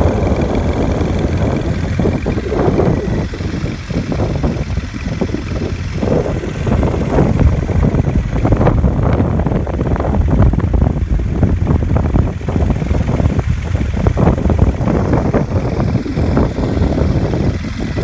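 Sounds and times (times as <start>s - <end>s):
motorcycle engine at low revs: 0.0s - 18.0s
wind buffeting microphone: 0.0s - 18.0s.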